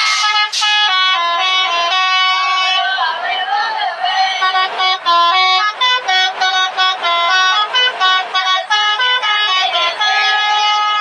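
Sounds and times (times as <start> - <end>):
tuned air horns playing a tune: 0.0 - 3.2, 4.3 - 11.0.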